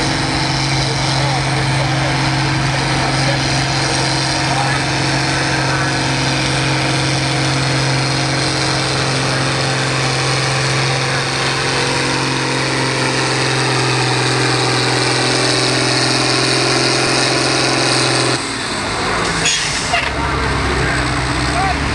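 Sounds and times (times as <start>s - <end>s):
diesel tractor engine running: 0.0s - 21.9s.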